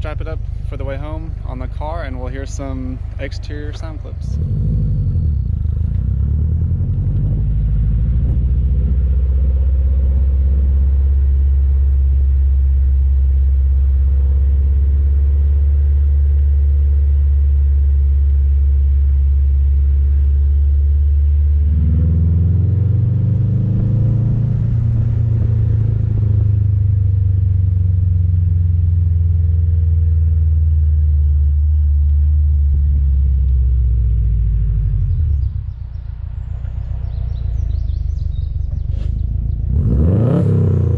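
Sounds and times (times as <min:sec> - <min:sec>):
car exhaust rumble: 0:00.0 - 0:40.9.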